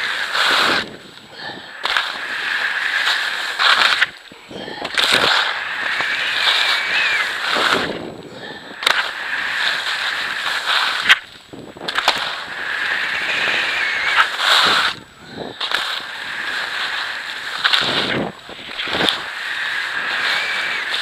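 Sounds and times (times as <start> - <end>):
ski edges scraping hard snow: 0.0 - 1.1, 1.7 - 4.2, 5.0 - 8.1, 8.8 - 21.0
wind rushing over microphone: 0.0 - 21.0.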